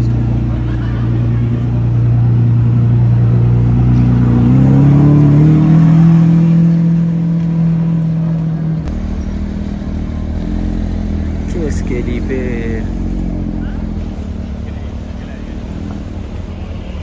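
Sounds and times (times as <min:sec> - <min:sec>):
car engine pulling away: 0:00.0 - 0:17.0
low engine rumble: 0:00.0 - 0:17.0.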